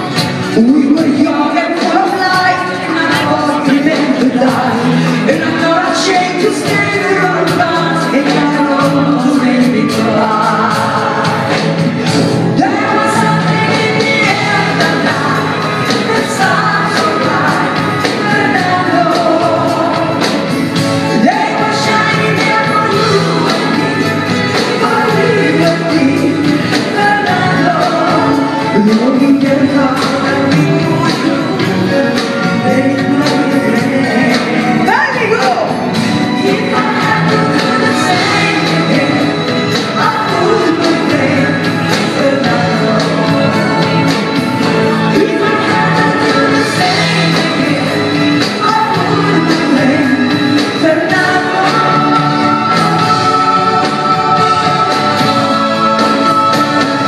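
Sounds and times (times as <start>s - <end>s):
band with drums and keyboards: 0.0s - 57.0s
woman singing: 0.0s - 57.0s.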